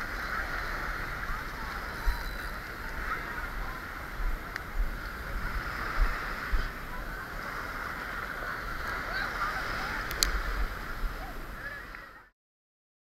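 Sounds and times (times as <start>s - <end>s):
small waves washing on beach: 0.0s - 12.3s.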